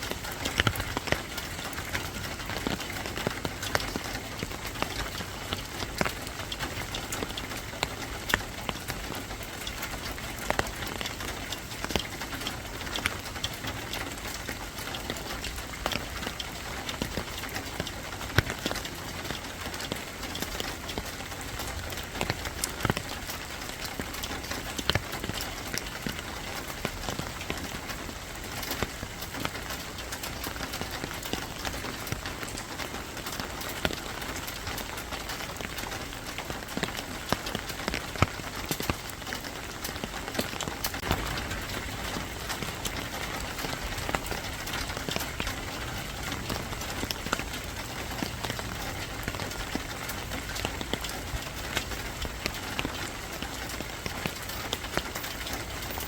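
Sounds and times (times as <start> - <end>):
rain hissing: 0.0 - 56.0
raindrops tapping on hard surface: 0.0 - 56.0.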